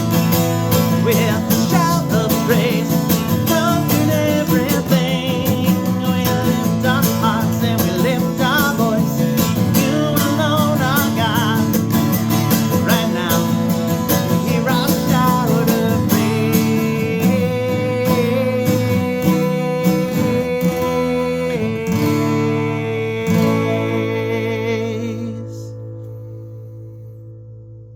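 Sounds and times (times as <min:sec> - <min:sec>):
band music with guitar: 0:00.0 - 0:27.6.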